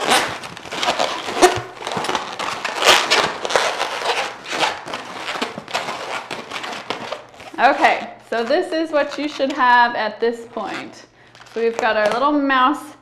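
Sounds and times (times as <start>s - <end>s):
balloons squeaking and rubbing: 0.0s - 12.2s.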